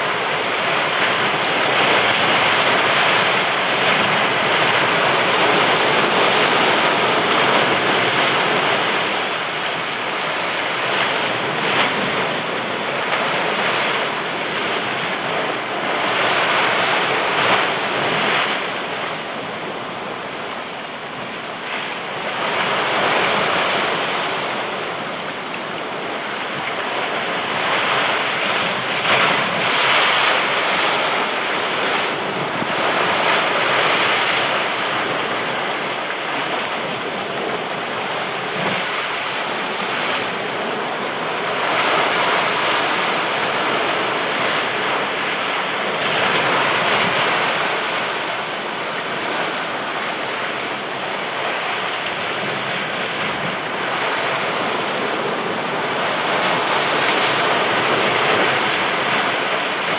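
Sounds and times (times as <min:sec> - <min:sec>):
sea waves breaking on rocks: 0:00.0 - 0:59.9.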